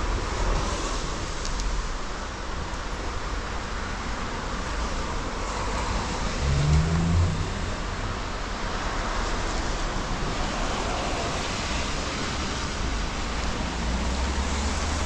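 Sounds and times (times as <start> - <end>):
low traffic rumble: 0.0 - 15.0
rain on a wet street: 0.0 - 15.0.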